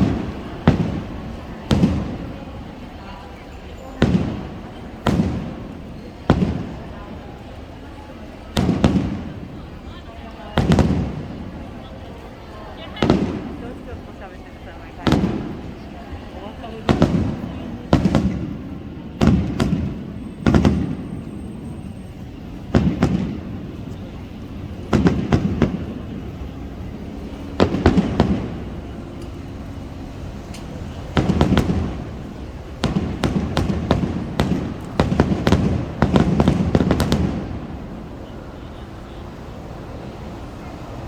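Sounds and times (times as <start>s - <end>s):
fireworks booming: 0.0s - 40.4s.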